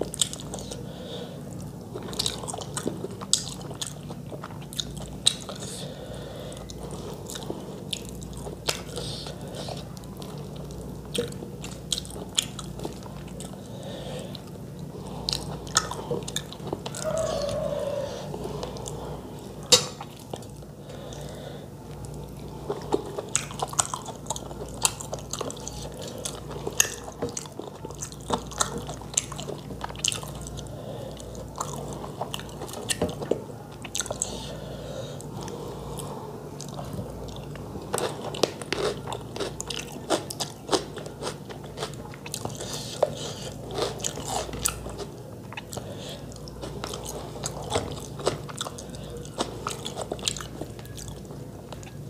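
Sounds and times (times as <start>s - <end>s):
chewing and biting food: 0.0s - 0.8s, 1.5s - 5.8s, 6.6s - 13.7s, 14.3s - 19.0s, 22.0s - 34.5s, 35.2s - 52.0s.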